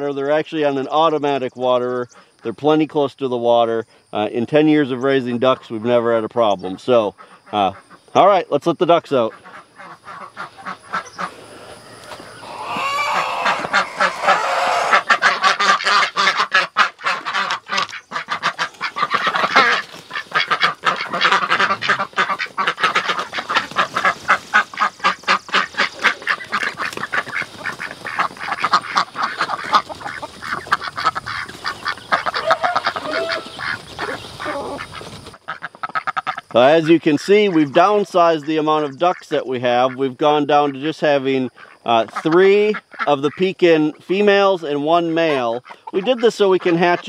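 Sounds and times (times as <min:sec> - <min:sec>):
ducks quacking: 0:05.0 - 0:47.0.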